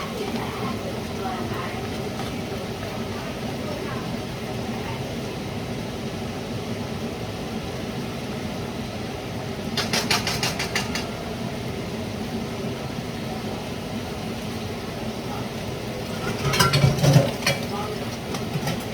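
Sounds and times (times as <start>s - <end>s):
mechanical hum: 0.0s - 18.9s.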